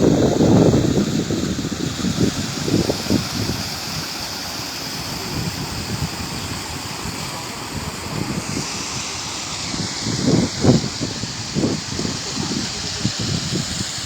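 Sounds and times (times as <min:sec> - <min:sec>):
steady hiss of rain: 0:00.0 - 0:14.0
wind blowing: 0:00.0 - 0:14.0
wind buffeting microphone: 0:00.0 - 0:14.0.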